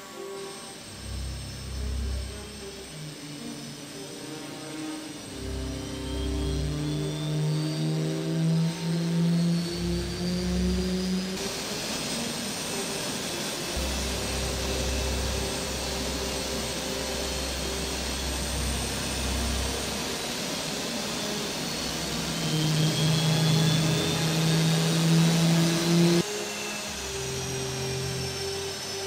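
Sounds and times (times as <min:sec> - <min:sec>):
jet engine high whine: 0:00.0 - 0:29.0
jet engine low hum: 0:00.0 - 0:29.0.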